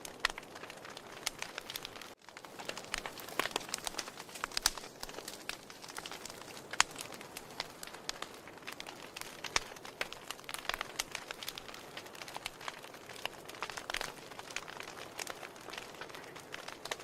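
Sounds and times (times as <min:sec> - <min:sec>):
burning logs crackling and popping: 0:00.0 - 0:17.0
soft steady hiss of fire: 0:00.0 - 0:17.0.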